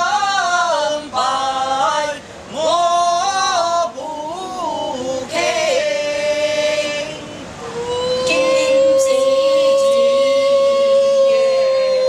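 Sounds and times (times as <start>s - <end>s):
person singing a chant: 0.0s - 12.0s.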